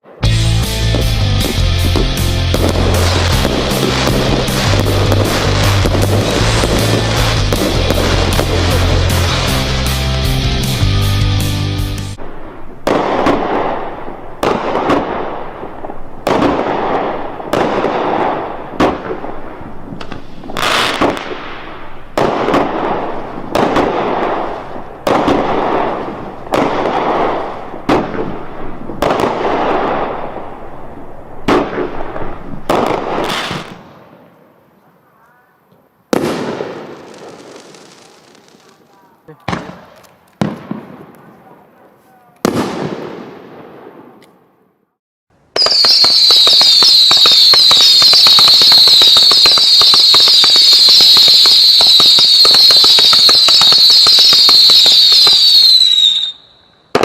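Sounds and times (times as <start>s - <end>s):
fireworks bangs: 0.0s - 11.3s, 12.0s - 44.8s, 45.5s - 57.0s.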